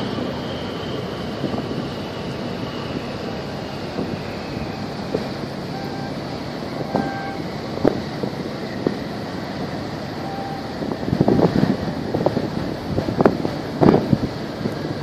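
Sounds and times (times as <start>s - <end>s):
low rumble of ships: 0.0s - 15.0s
wind buffeting microphone: 0.0s - 15.0s.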